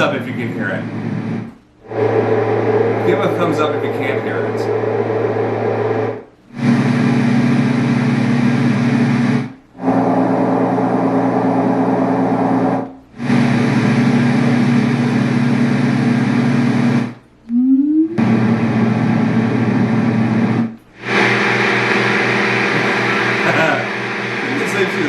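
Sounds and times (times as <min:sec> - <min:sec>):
white noise machine fan sound: 0:00.0 - 0:17.4, 0:18.1 - 0:25.0.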